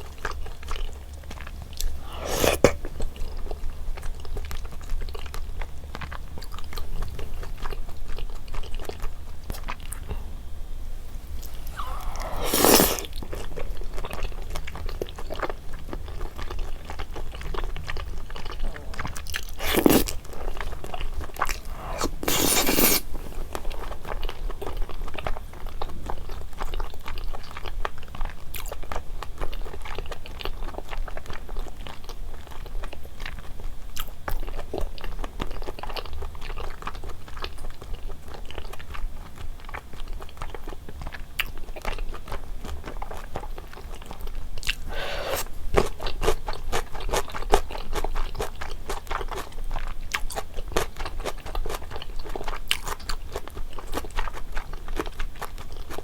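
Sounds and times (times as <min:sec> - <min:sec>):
close-miked chewing and biting: 0:00.0 - 0:10.2, 0:11.4 - 0:56.0.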